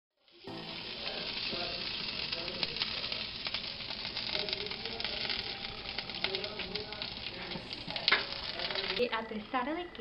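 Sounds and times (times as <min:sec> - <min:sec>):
chicken skin and fat sizzling: 0:00.2 - 0:10.0.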